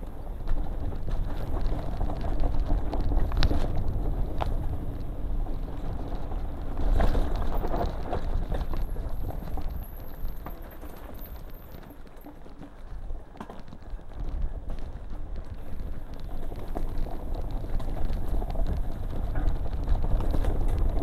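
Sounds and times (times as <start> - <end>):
bike clattering over bumps: 0.0 - 21.0
bike tyres rumbling over rocky dirt: 0.0 - 21.0.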